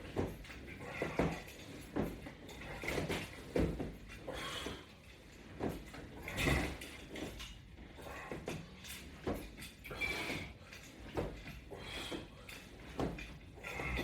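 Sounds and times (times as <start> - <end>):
exercise gear creaking and knocking: 0.0 - 14.0.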